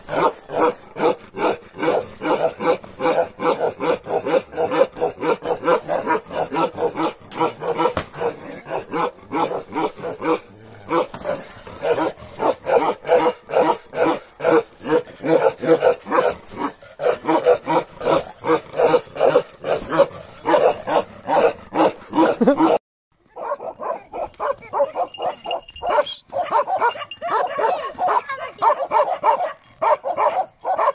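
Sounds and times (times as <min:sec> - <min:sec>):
dog barking rapidly: 0:00.0 - 0:22.8, 0:23.4 - 0:30.9.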